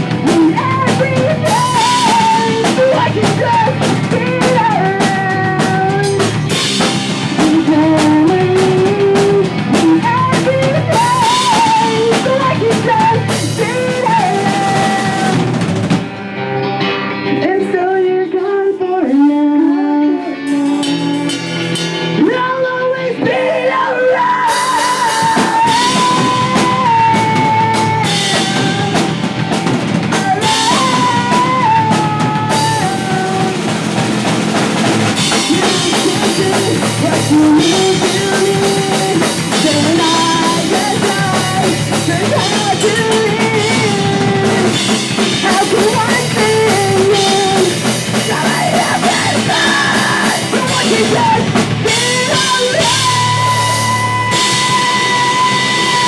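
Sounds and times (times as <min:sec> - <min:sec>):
drum kit: 0:00.0 - 0:16.4, 0:20.2 - 0:56.0
bass guitar: 0:00.0 - 0:56.0
distorted guitars: 0:00.0 - 0:56.0.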